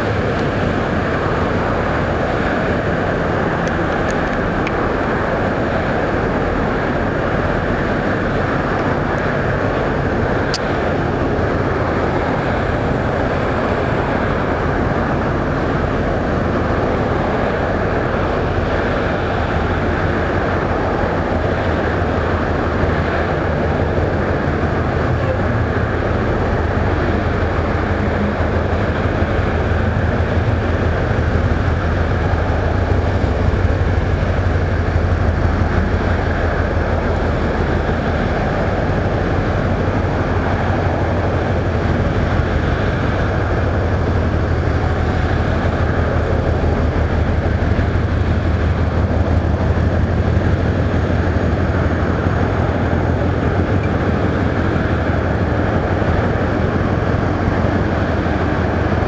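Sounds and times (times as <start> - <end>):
low engine rumble: 0.0 - 59.0.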